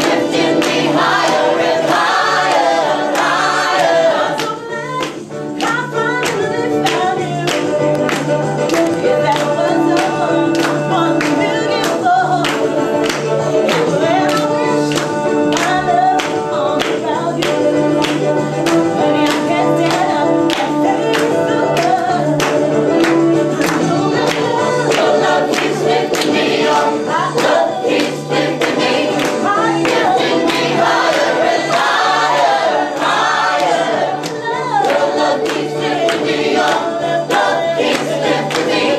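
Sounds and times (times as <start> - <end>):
clapping on the beat: 0.0 - 38.9
group singing: 0.0 - 38.9
upbeat music: 0.0 - 38.9.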